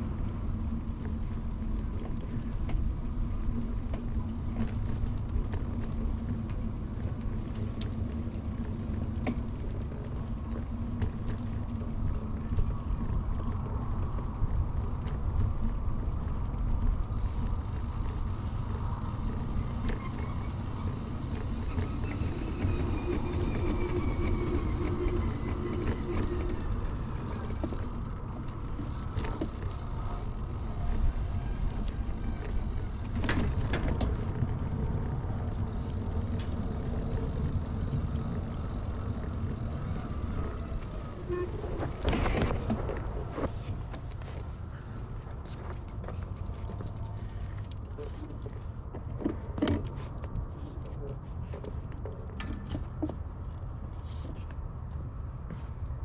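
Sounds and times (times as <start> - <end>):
bicycle rattles: 0.0 - 54.5
bicycle tyre rumble: 0.0 - 56.0.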